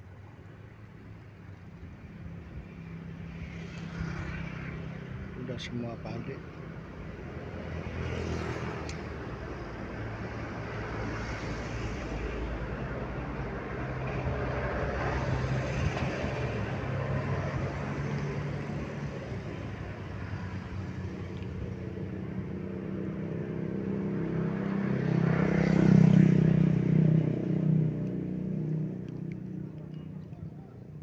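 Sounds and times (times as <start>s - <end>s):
road noise rush: 0.0s - 31.0s
vehicle engine hum: 0.0s - 31.0s.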